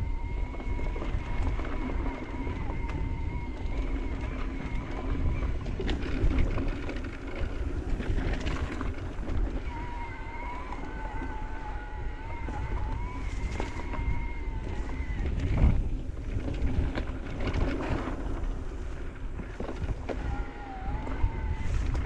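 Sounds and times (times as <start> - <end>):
electric bike motor whining: 0.0 - 22.0
wind rush on microphone: 0.0 - 22.0
bike rattling and knocking: 0.2 - 22.0.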